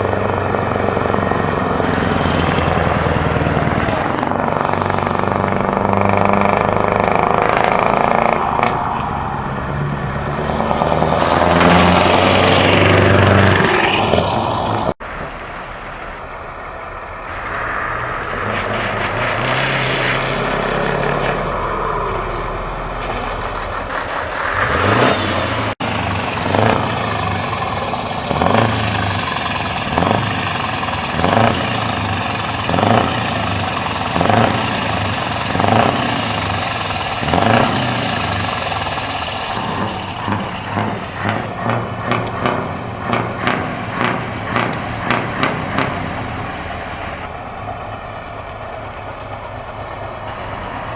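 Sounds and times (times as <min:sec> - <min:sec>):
engine throttle blips: 0:00.0 - 0:50.9
truck engines revving: 0:00.0 - 0:50.9.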